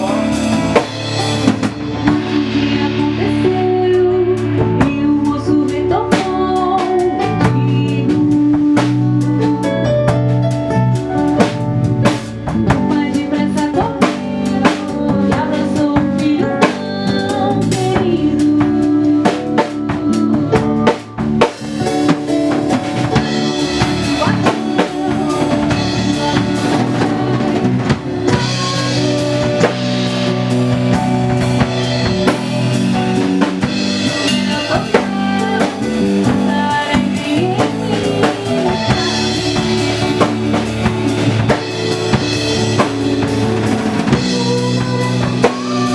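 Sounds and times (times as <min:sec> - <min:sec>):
band playing a song: 0:00.0 - 0:45.9
drum kit: 0:00.0 - 0:45.9.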